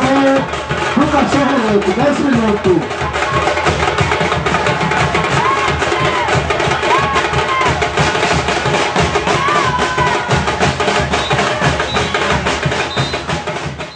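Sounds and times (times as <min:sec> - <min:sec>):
fast drum beats: 0:00.0 - 0:13.9.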